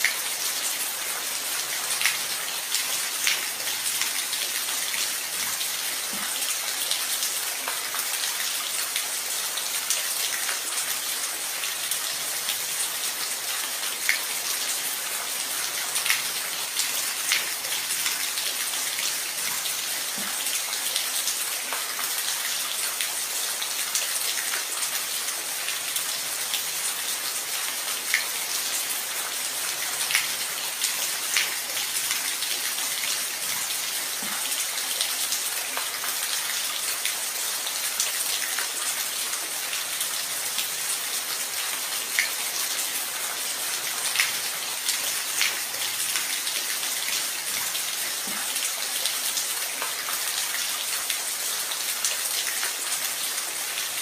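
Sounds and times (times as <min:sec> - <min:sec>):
raindrops ticking and splashing: 0:00.0 - 0:54.0
steady rain hiss: 0:00.0 - 0:54.0.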